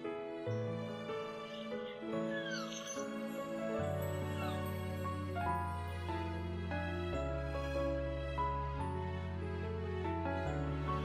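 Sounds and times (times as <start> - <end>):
slow soft background music: 0.0 - 11.0.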